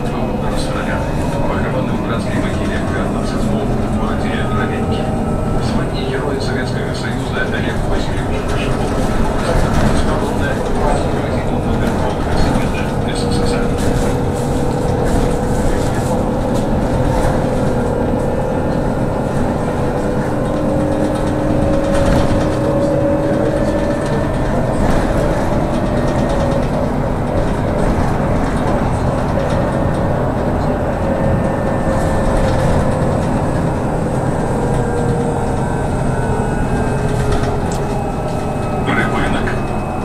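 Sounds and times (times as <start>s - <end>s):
trolleybus cabin rumble: 0.0s - 40.0s.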